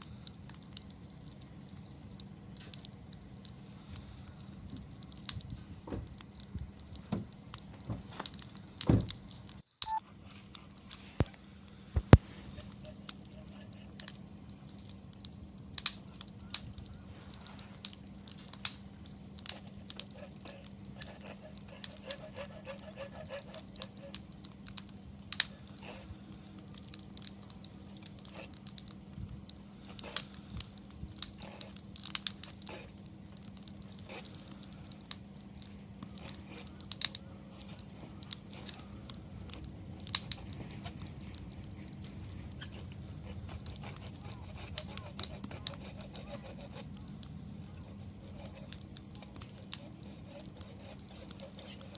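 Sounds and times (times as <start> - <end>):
campfire crackling: 0.0 - 51.9.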